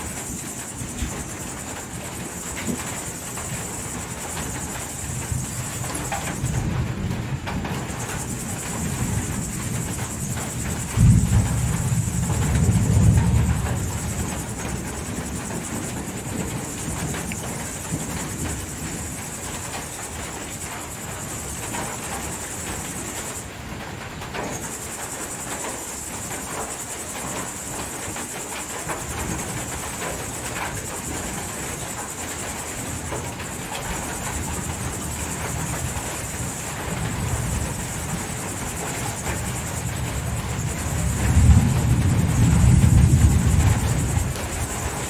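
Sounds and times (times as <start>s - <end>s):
high-pitched cricket trill: 0.0s - 45.0s
rain falling: 0.0s - 45.0s.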